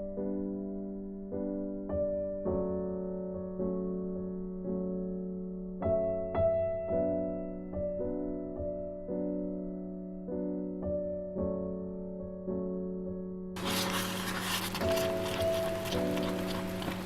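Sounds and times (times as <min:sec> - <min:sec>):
gentle keyboard chords: 0:00.0 - 0:17.0.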